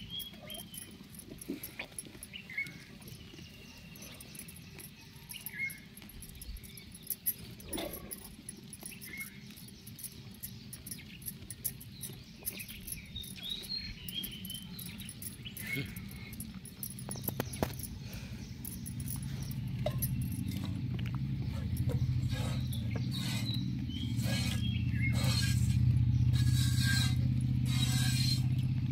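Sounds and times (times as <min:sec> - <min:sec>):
low hum: 0:00.1 - 0:28.9.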